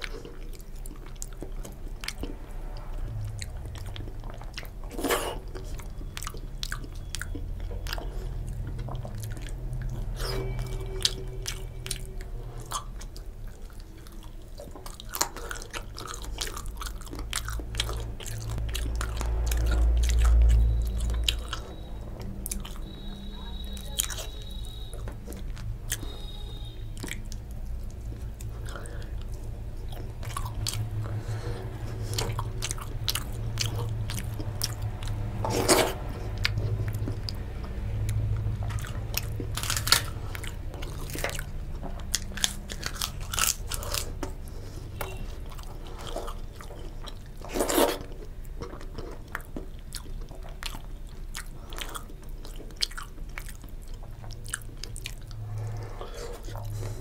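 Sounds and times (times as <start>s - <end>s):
low steady hum: 0.0s - 57.0s
person chewing crunchy food: 0.0s - 57.0s.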